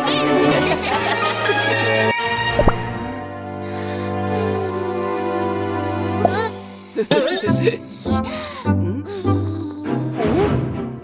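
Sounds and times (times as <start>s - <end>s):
cartoon background score: 0.0s - 11.0s.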